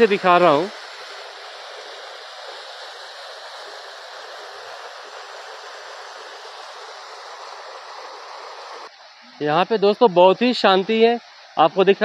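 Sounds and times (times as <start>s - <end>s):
waterfall onto rock: 0.0s - 10.3s.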